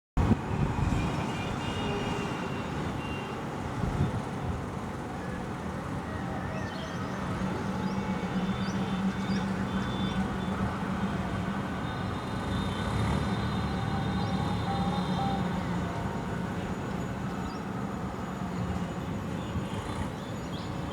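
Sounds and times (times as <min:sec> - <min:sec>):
road traffic rumble: 0:00.2 - 0:20.9.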